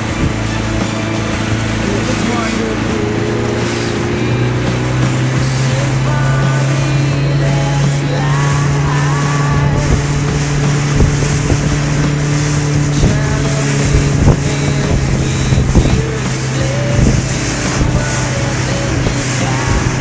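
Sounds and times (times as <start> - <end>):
low thumps: 0.0 - 20.0
motorboat engine humming: 0.0 - 20.0
wind noise on microphone: 0.0 - 20.0.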